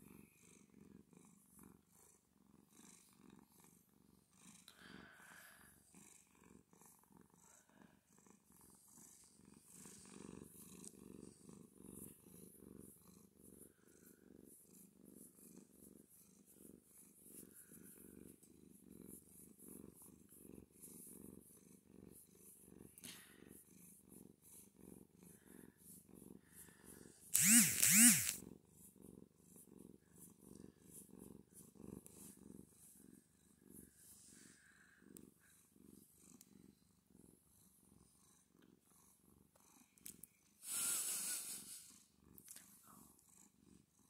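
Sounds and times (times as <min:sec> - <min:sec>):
cat purring: 0:00.0 - 0:44.0.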